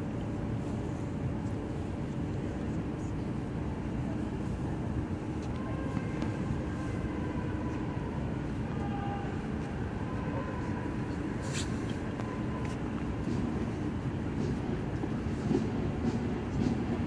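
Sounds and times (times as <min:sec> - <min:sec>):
low city rumble: 0:00.0 - 0:17.0
faint distant voices: 0:00.6 - 0:17.0.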